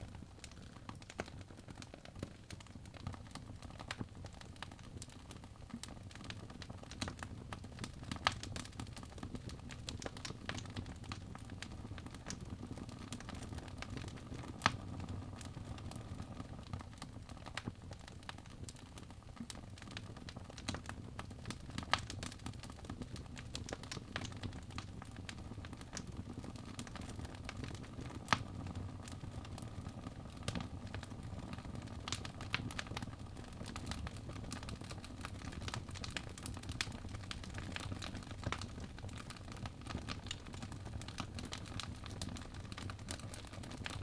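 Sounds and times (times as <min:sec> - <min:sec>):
wood fire crackling: 0:00.0 - 0:44.0
flames rumbling: 0:07.0 - 0:44.0.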